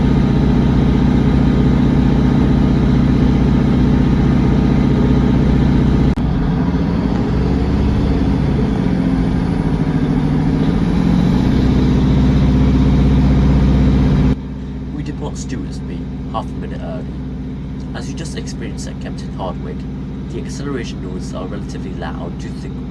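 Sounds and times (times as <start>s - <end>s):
train diesel engines accelerating: 0.0s - 22.9s.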